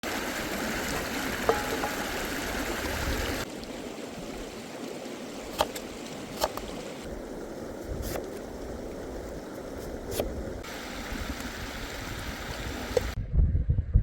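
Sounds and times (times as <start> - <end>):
stream rushing: 0.0 - 13.2.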